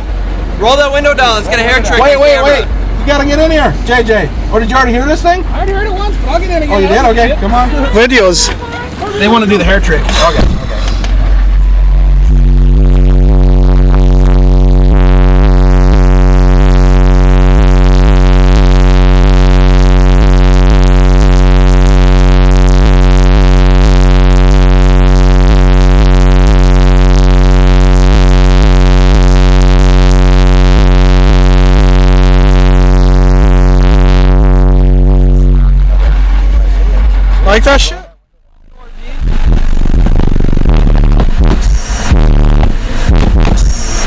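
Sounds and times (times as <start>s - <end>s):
distorted subwoofer bass tone: 0.0s - 44.0s.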